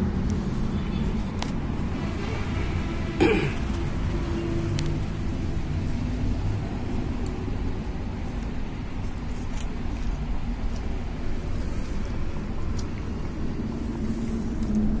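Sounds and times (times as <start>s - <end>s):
low traffic-like rumble: 0.0s - 15.0s.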